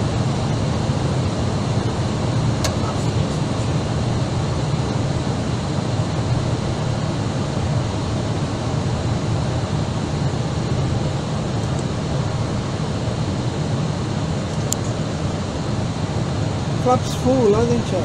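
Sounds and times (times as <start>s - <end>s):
airplane cabin engine rush: 0.0s - 18.0s
faint steady whine: 0.0s - 18.0s.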